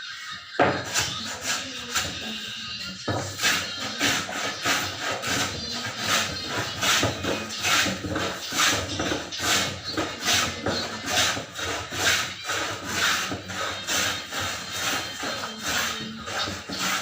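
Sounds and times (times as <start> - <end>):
back-and-forth scraping strokes: 0.6 - 17.0.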